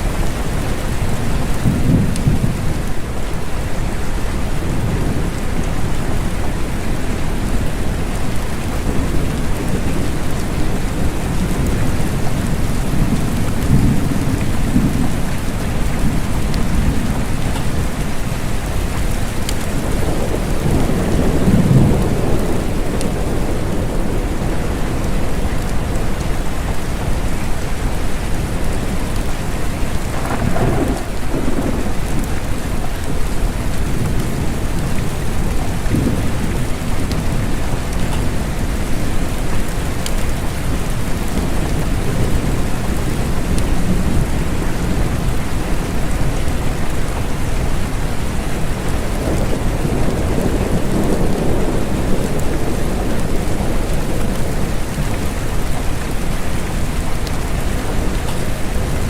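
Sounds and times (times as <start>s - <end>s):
deep thunder rumbles: 0.0s - 3.4s, 4.1s - 59.0s
steady rain: 0.0s - 59.0s.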